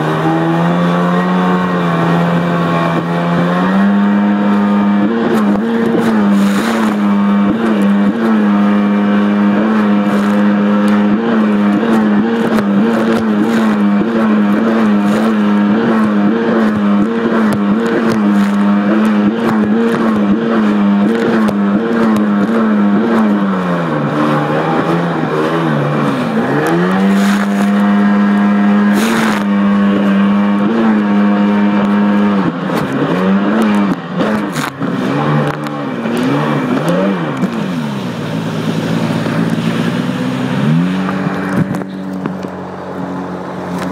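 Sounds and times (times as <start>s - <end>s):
watercraft engine revving: 0.0s - 43.9s.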